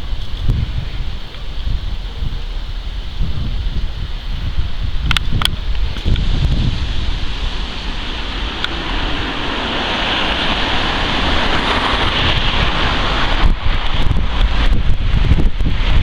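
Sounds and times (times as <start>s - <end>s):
jet airliner passing overhead: 0.0s - 16.0s
wind buffeting microphone: 0.0s - 16.0s.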